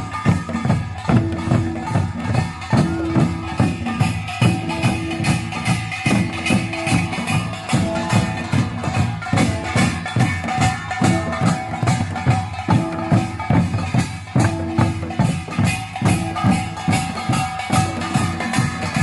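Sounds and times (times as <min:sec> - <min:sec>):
drums beating fast rhythm: 0:00.0 - 0:19.0
gongs clanging and ringing: 0:00.0 - 0:19.0.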